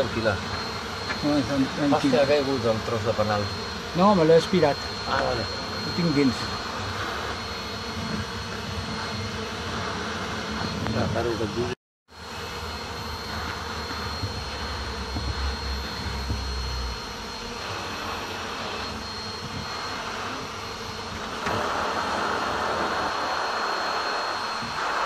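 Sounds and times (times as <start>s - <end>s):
bees buzzing: 0.0s - 24.7s
bee vacuum running: 0.0s - 25.0s.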